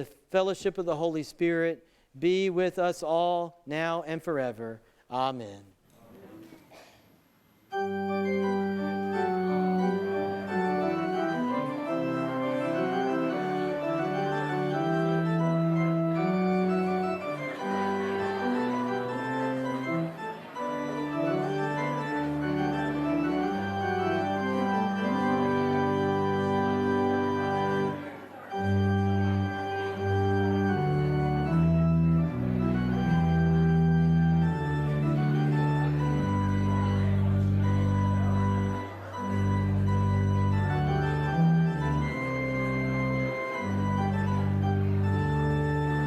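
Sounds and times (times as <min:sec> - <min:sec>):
church organ chords: 0:07.7 - 0:46.0.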